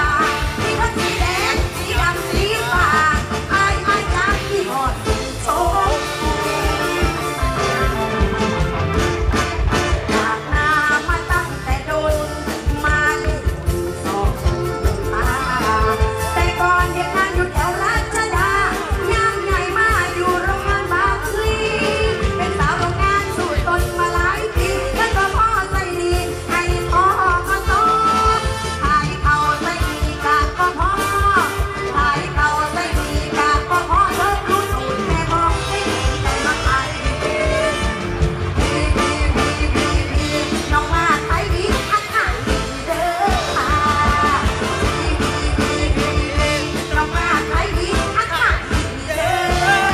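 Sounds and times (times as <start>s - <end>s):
woman singing into a microphone: 0.0s - 7.5s, 9.9s - 49.9s
band with steady drum beat: 0.0s - 49.9s.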